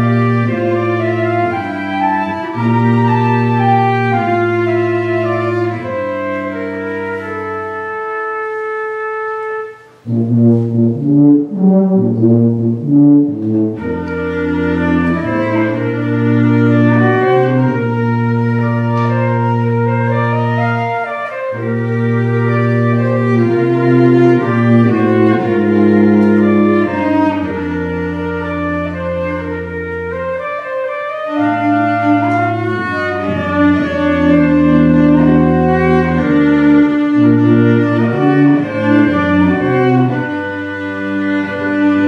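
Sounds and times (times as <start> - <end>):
flute cello and tuba trio: 0.0 - 42.0.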